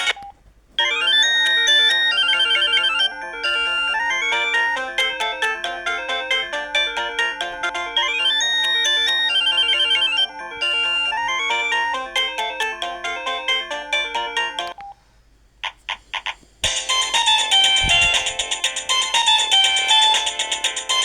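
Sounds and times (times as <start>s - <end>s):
polyphonic ringtone melody: 0.8s - 14.8s, 16.6s - 21.0s.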